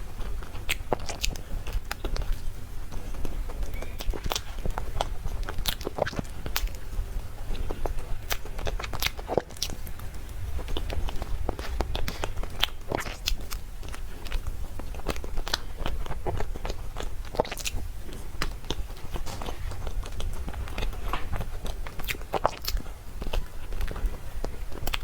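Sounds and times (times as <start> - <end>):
person chewing cake: 0.0 - 25.0.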